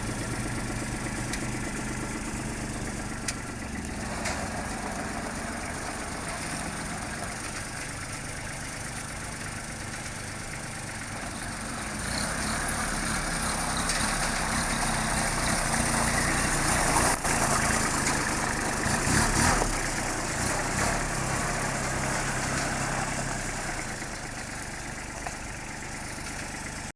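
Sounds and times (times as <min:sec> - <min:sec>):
tractor diesel engine idling: 0:00.0 - 0:26.9.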